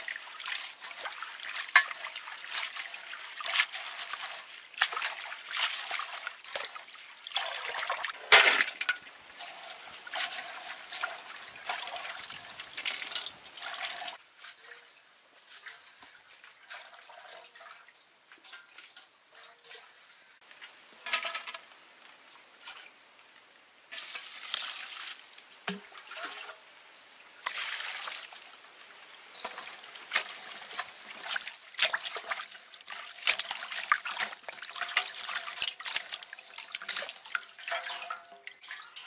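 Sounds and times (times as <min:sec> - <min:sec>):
water splashing in metal basin: 0:00.0 - 0:20.0, 0:23.9 - 0:26.6, 0:27.4 - 0:28.6, 0:29.3 - 0:39.0.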